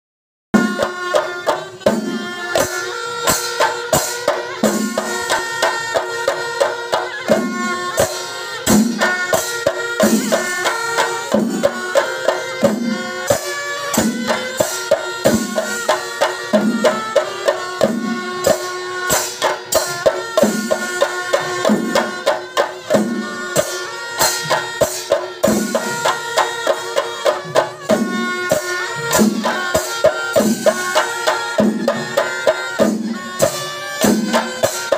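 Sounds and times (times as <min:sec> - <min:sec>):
massed drums beating: 0:00.6 - 0:34.9
shrill double-reed pipes: 0:00.6 - 0:34.9.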